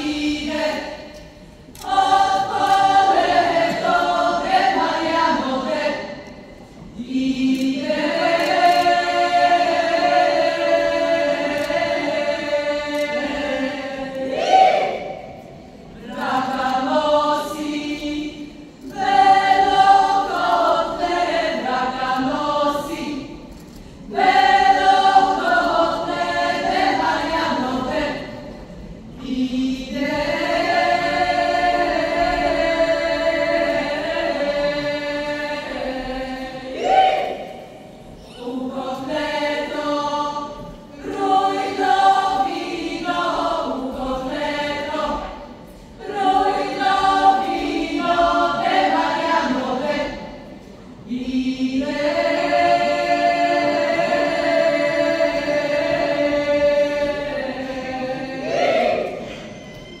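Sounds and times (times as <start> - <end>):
women's choir singing a cappella: 0.0 - 59.6.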